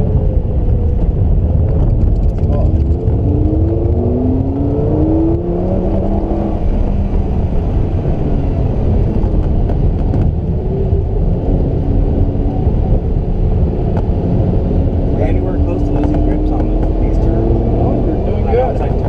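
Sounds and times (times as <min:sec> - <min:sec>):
car engine rumbling: 0:00.0 - 0:19.0
road noise: 0:00.0 - 0:19.0.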